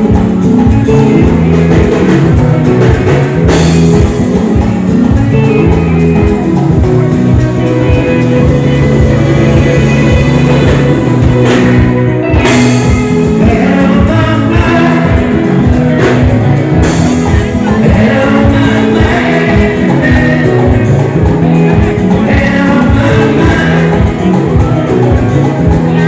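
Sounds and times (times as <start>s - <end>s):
live band music with singing: 0.0s - 26.0s.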